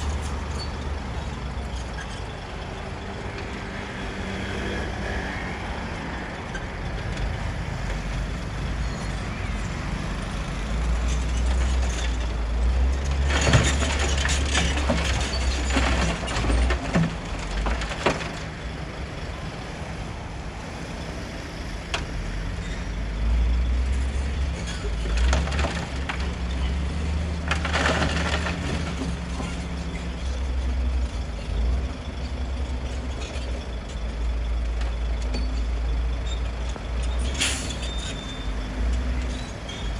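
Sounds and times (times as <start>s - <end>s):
bulldozer engine rumbling: 0.0s - 39.9s.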